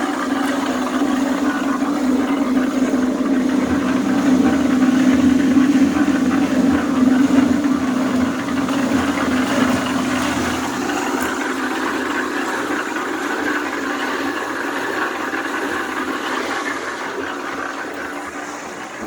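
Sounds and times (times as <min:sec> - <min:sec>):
low hum: 0:00.0 - 0:19.0
running water rushing: 0:00.0 - 0:19.0.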